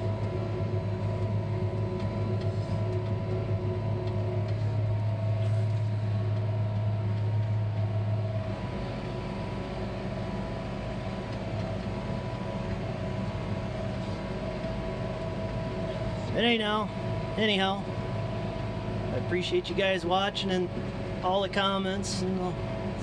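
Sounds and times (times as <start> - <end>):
diesel tractor engine droning: 0.0 - 23.0
strong low hum: 0.0 - 23.0.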